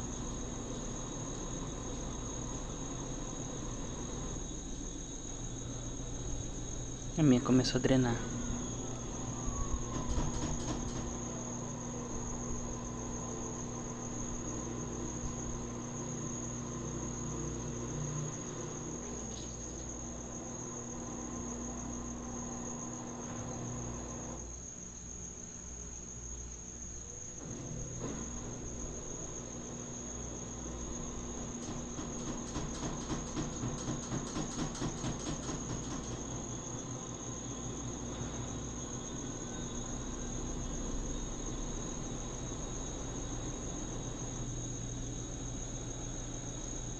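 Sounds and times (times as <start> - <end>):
washing machine drain pump humming: 0.0 - 46.9.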